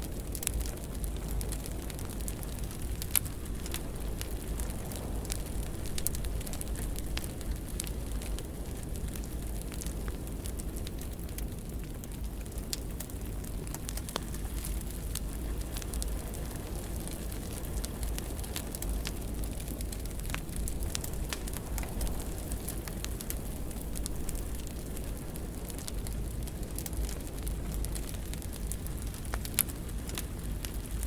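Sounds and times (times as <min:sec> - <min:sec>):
fireplace fire crackling: 0:00.0 - 0:31.0.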